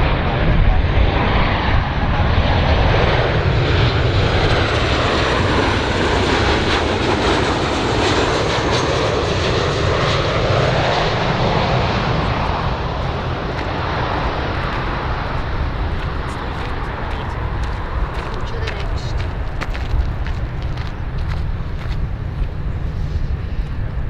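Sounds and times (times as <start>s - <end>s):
faint high engine whine: 0.0s - 24.0s
jet airliner engine noise: 0.0s - 24.0s.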